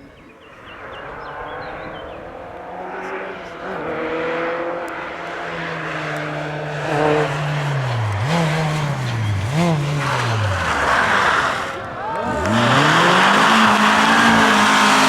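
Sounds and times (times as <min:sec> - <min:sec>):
rally car engine at high revs: 0:00.6 - 0:15.0.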